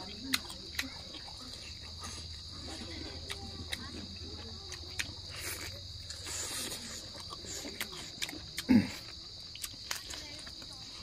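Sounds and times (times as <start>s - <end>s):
chewing and lip-smacking: 0.0s - 11.0s
crickets chirring: 0.0s - 11.0s.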